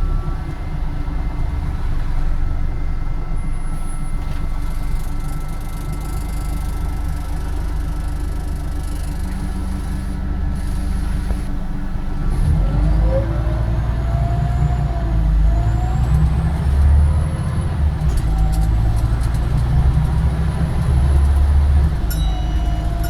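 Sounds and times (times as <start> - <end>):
road rumble: 0.0 - 5.0, 6.8 - 23.0
bus engine drone: 0.0 - 23.0.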